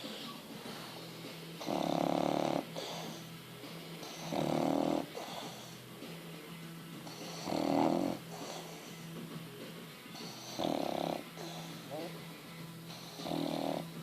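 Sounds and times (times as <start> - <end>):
dog breathing quietly: 0.0 - 6.2, 7.0 - 9.2, 10.0 - 14.0
dog snoring: 0.0 - 9.3, 10.0 - 14.0.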